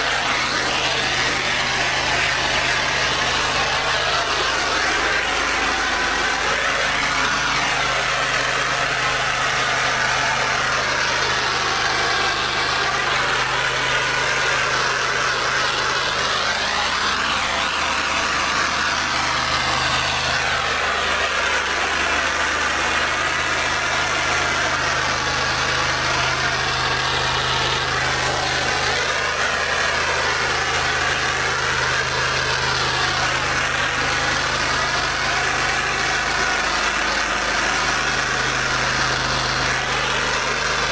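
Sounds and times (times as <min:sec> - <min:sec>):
gas engine running: 0:00.0 - 0:40.9
high-pressure water spray hiss: 0:00.0 - 0:40.9.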